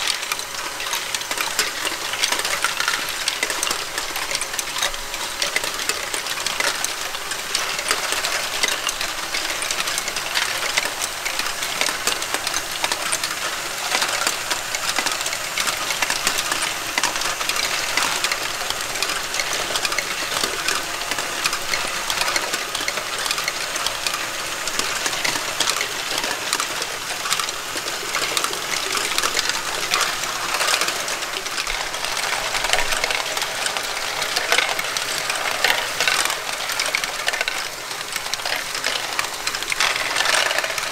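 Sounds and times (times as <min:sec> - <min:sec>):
plastic balls clicking and clattering: 0:00.0 - 0:40.9.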